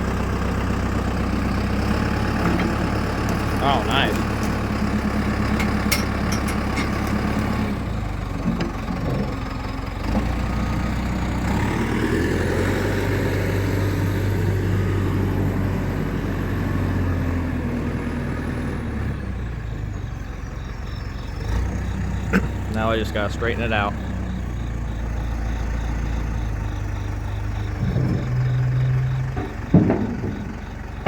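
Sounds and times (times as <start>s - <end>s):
backhoe engine running: 0.0s - 31.0s.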